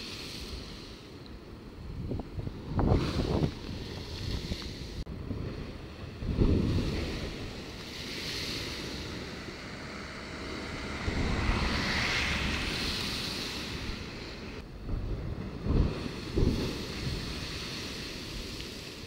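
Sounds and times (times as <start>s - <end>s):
wind buffeting microphone: 0.0s - 19.0s
surf breaking against sea wall: 2.6s - 19.0s.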